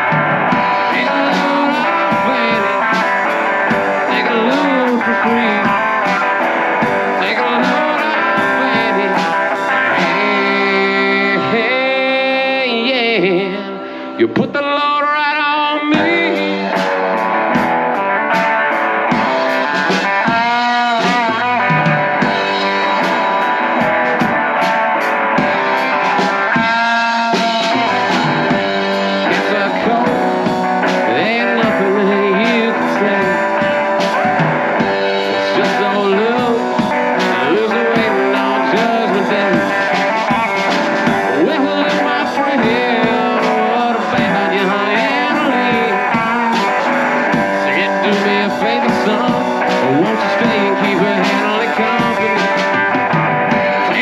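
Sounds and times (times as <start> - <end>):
drum kit beat: 0.0 - 54.0
electric guitar lead lines: 0.0 - 54.0.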